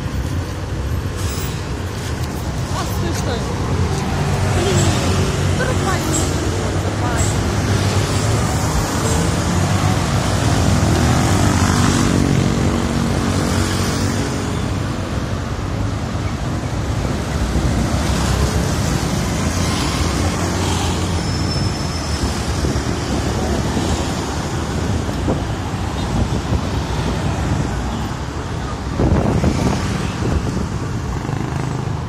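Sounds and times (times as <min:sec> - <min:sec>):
scooters and cars passing: 0:00.0 - 0:32.0.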